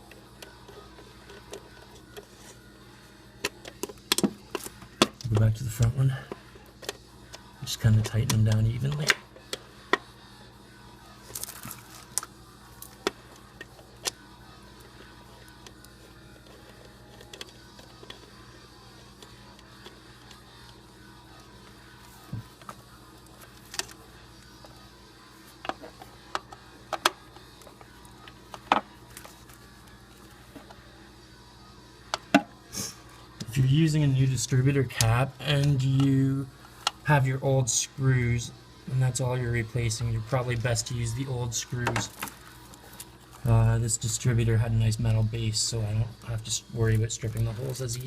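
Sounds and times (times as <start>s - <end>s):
faint hum: 0.0s - 48.0s.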